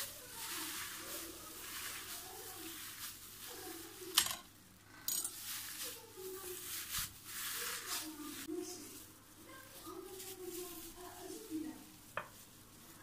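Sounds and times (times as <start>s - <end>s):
wet squishing of minced meat: 0.0s - 4.2s, 5.4s - 13.0s
plastic gloves crinkling: 0.0s - 13.0s.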